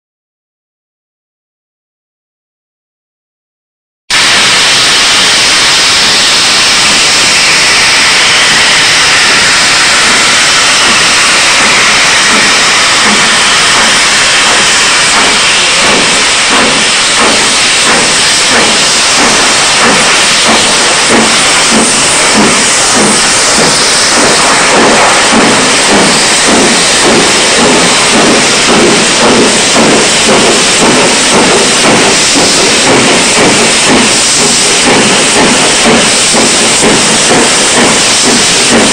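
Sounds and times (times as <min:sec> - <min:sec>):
steam hissing from locomotive: 0:04.1 - 0:38.9
steam locomotive chuffing: 0:04.1 - 0:38.9.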